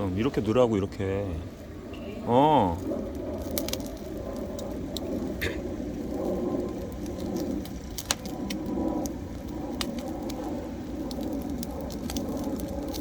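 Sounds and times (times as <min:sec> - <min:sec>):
firewood crackling and popping: 0:00.0 - 0:13.0
wood fire rumbling: 0:00.0 - 0:13.0.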